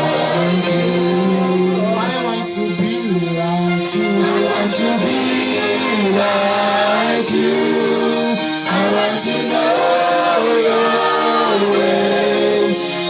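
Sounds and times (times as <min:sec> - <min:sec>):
voices singing gospel song: 0:00.0 - 0:13.0.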